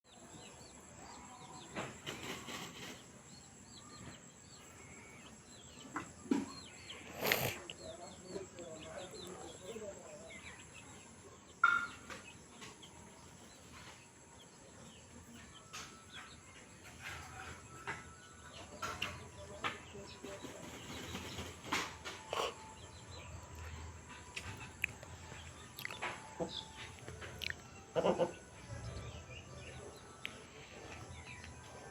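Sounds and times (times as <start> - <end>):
bird calls and chirps: 0.1 - 31.9.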